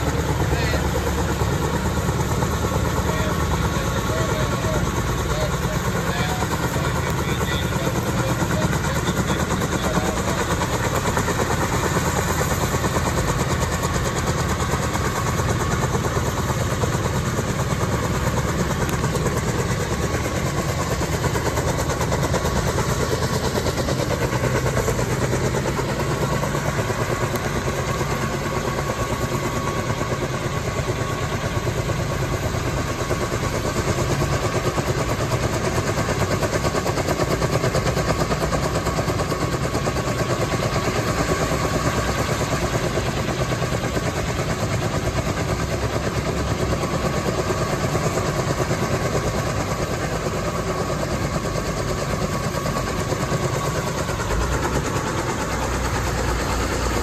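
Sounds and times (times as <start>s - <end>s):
helicopter rotor chop: 0.0s - 57.0s
turbine whine: 0.0s - 57.0s.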